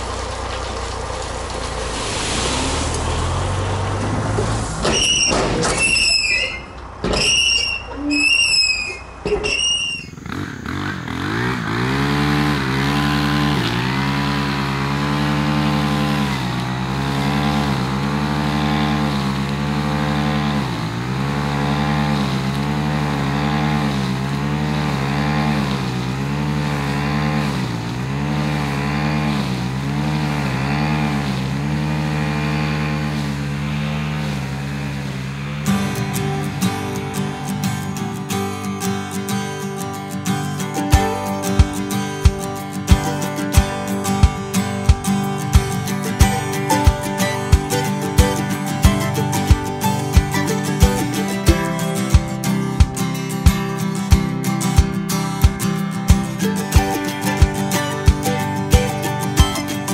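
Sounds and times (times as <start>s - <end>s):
string trimmer engine running: 8.6s - 59.9s.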